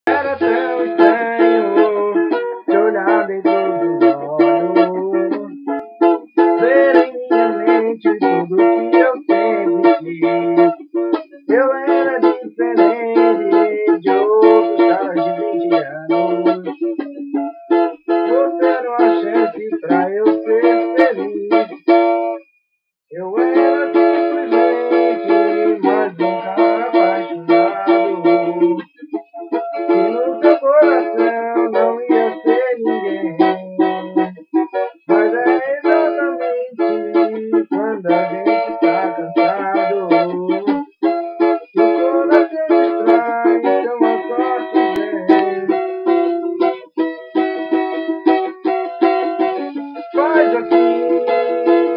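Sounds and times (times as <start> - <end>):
plucked string instrument: 0.0 - 22.5, 23.1 - 51.9.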